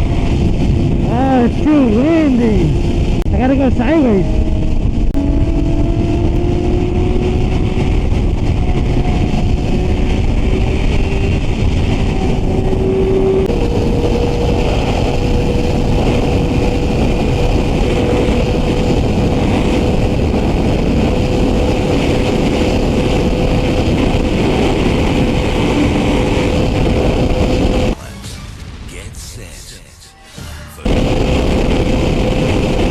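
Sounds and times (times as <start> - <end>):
motorcycle engine running: 0.0 - 28.0, 30.9 - 32.9
wind rush on microphone: 0.0 - 28.0, 30.8 - 32.9.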